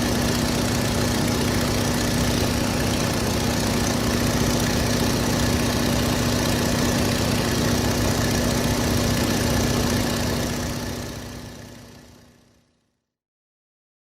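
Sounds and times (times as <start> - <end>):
biplane engine drone: 0.0 - 12.3.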